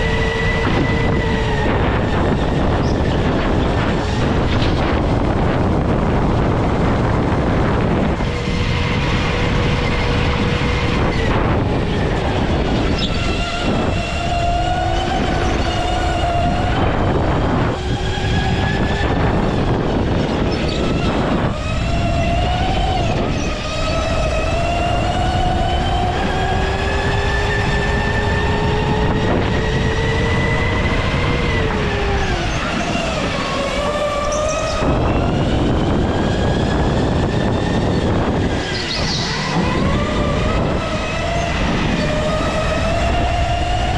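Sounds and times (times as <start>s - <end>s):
go-kart motor whining: 0.0s - 43.9s
wind buffeting microphone: 0.0s - 43.9s.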